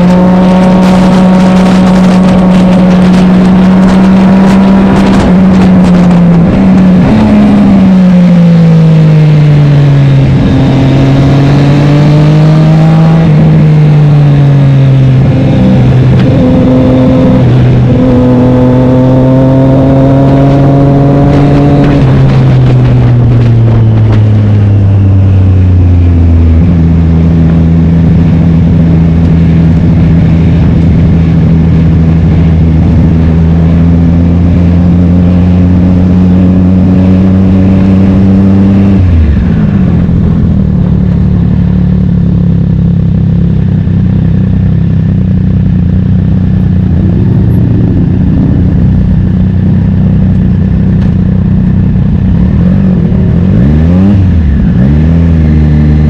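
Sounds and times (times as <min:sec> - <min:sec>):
passing engine: 0:00.0 - 0:56.0
racing motorcycle engine: 0:00.0 - 0:56.0.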